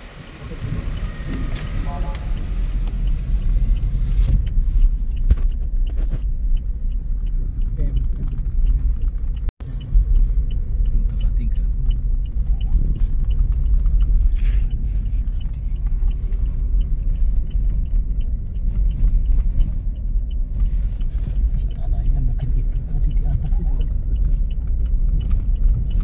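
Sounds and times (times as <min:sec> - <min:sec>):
road rumble inside a car: 0:00.0 - 0:26.0.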